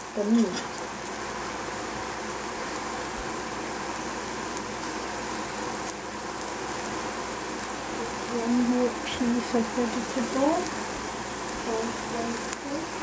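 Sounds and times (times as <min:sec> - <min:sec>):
vegetables cooking hiss: 0:00.0 - 0:13.0.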